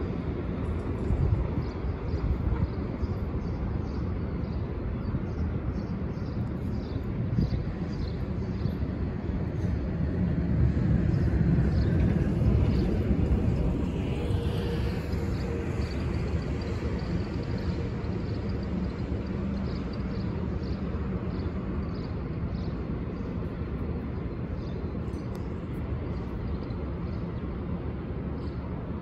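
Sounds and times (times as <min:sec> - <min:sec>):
subway train rumbling on tracks: 0:00.0 - 0:29.0.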